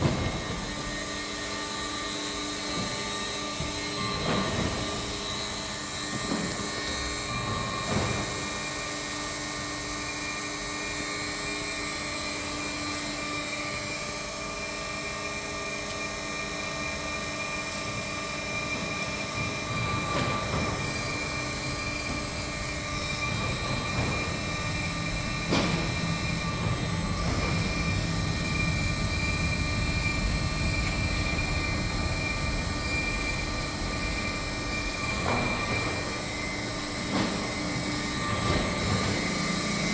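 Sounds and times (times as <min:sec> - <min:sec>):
printing machine hum and whine: 0:00.0 - 0:39.9.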